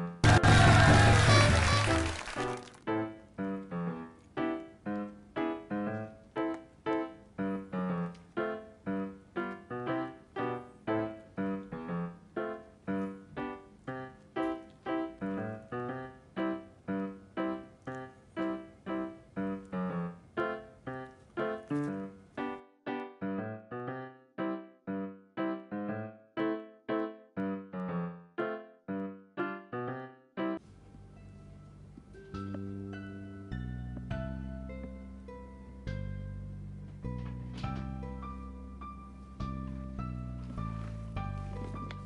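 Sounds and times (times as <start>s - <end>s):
slow piano-like melody: 0.0s - 42.0s.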